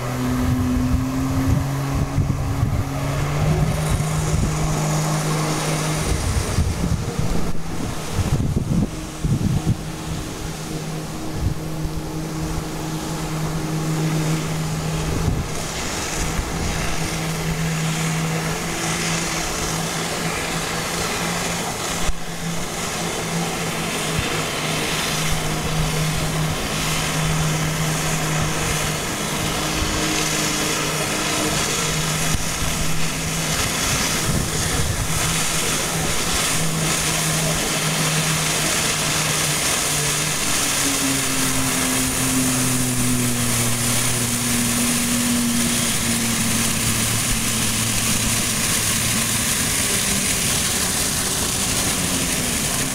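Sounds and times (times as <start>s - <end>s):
water jets hissing: 0.0s - 52.9s
watercraft engine running: 0.0s - 52.9s
wind buffeting microphone: 0.0s - 52.9s.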